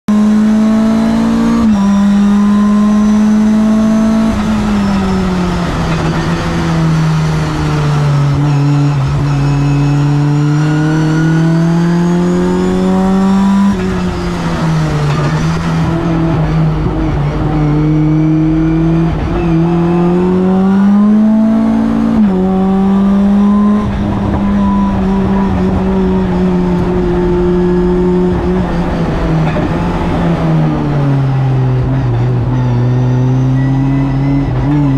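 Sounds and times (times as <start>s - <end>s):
race car engine from cockpit: 0.1s - 34.9s.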